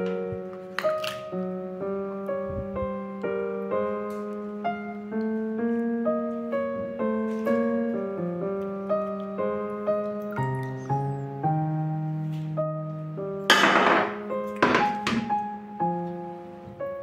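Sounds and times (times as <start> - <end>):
background piano music: 0.0 - 17.0.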